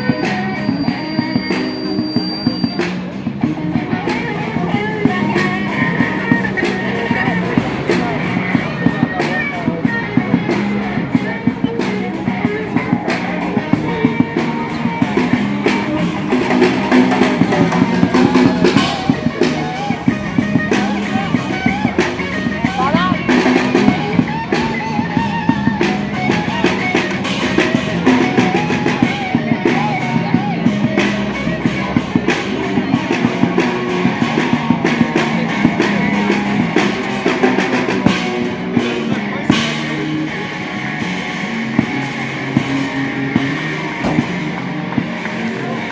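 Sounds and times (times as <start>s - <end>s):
drum kit steady beat: 0.0s - 45.9s
electric guitar: 0.0s - 45.9s.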